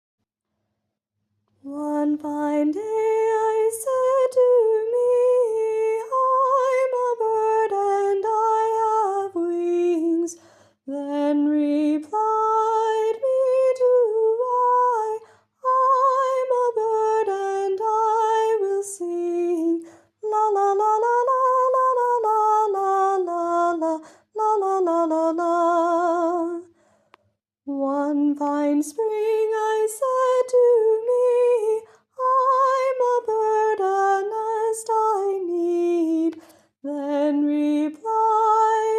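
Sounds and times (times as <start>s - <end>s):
woman singing unaccompanied: 1.6s - 26.7s, 27.7s - 38.9s.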